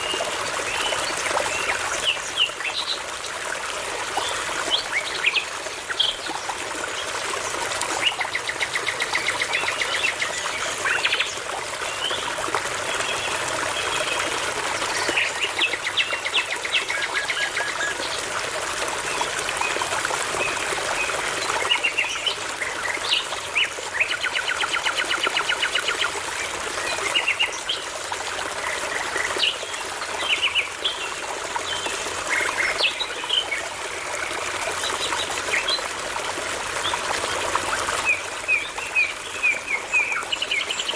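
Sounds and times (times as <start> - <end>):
babbling brook: 0.0 - 40.9.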